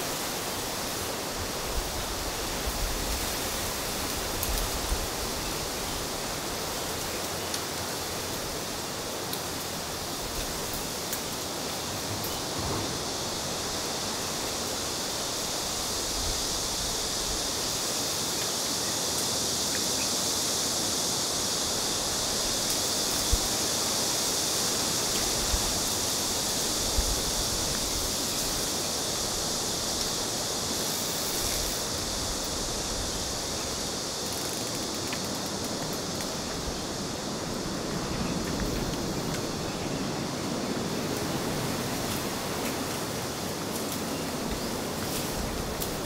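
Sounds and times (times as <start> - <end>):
steady outdoor hiss: 0.0 - 46.0.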